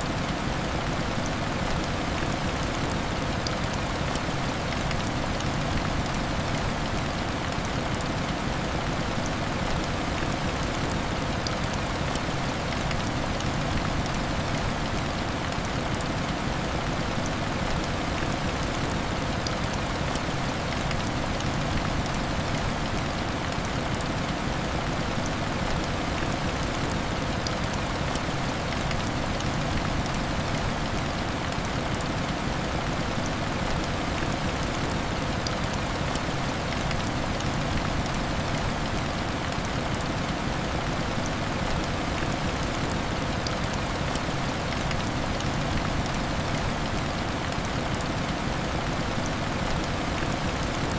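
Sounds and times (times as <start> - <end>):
heavy rain on window glass: 0.0 - 50.9.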